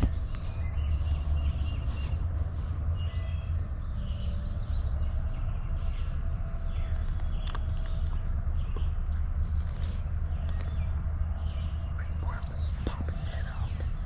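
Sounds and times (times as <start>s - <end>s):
faint bird chirps: 0.0s - 14.0s
steady low rumble: 0.0s - 14.0s.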